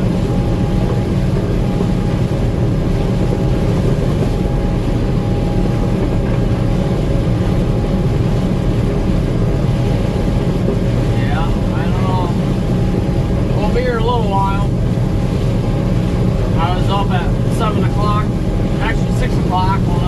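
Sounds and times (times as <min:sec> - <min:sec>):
combine engine drone: 0:00.0 - 0:20.0
faint steady whine: 0:00.0 - 0:20.0.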